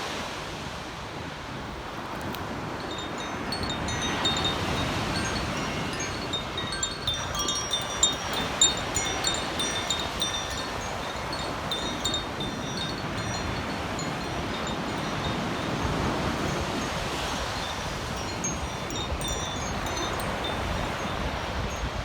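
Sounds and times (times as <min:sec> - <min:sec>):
wind on microphone: 0:00.0 - 0:22.0
wind chimes ringing: 0:02.8 - 0:22.0.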